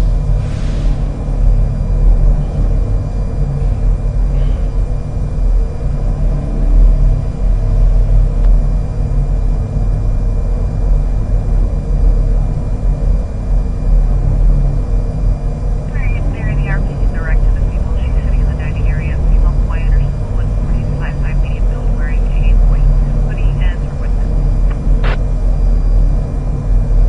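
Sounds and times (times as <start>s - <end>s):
faint hum tones: 0.0s - 27.0s
steady low rumble: 0.0s - 27.0s.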